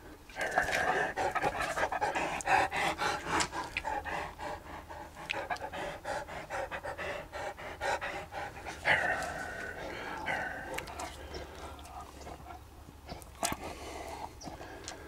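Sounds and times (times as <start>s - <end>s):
dog panting: 0.4s - 14.8s.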